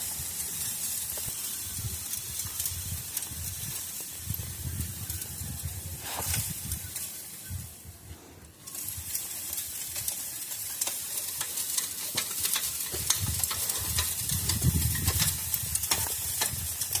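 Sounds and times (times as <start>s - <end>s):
sand hissing through mesh screen: 0.0s - 17.0s.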